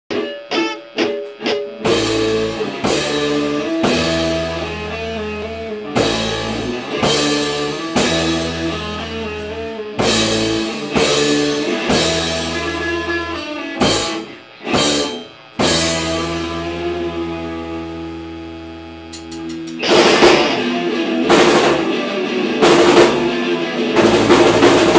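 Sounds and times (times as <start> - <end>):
punk rock band playing: 0.1 - 24.9.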